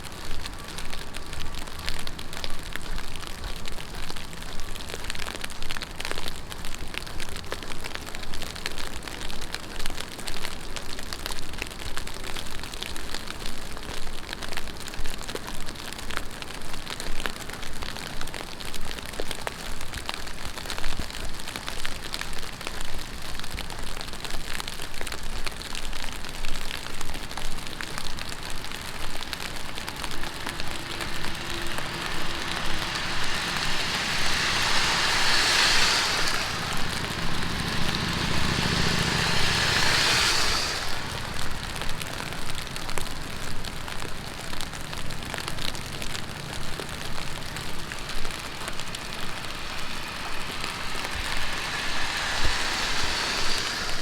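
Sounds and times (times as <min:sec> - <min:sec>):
heavy rain pattering: 0:00.0 - 0:54.0
vehicle tyres on wet road: 0:00.0 - 0:54.0.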